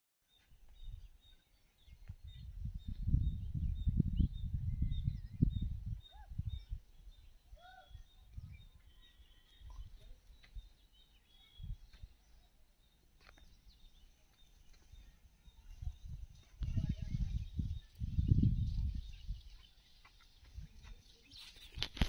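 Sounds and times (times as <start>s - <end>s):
faint bird chirps: 0.4s - 22.0s.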